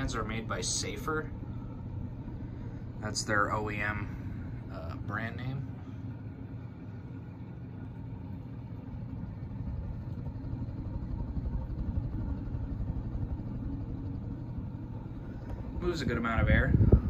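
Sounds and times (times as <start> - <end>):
ceiling fan running: 0.0 - 17.0.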